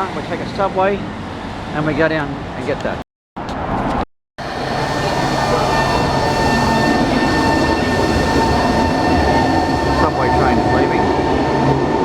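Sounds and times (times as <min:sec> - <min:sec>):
subway train rumble and whine: 0:00.0 - 0:02.7, 0:03.5 - 0:12.0.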